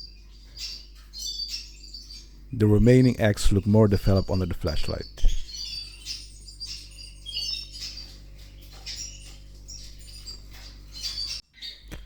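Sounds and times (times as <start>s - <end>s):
canaries chirping: 0.0s - 12.0s
steady low hum: 0.0s - 12.0s.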